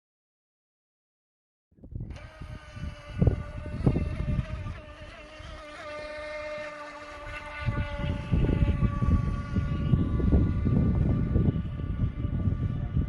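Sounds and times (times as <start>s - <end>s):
wind buffeting microphone: 1.8s - 13.0s
electric motor whining: 2.0s - 13.0s.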